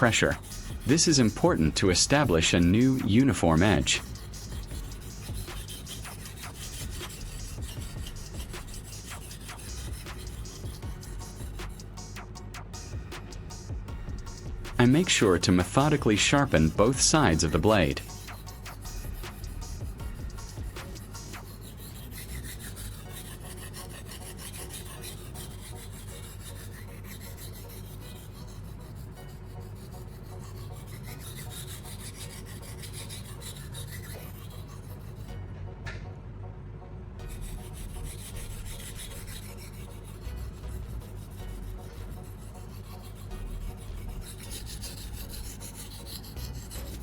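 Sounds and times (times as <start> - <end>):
knife scraping on sharpening stone: 0.0 - 11.8, 14.8 - 35.3, 37.2 - 47.0.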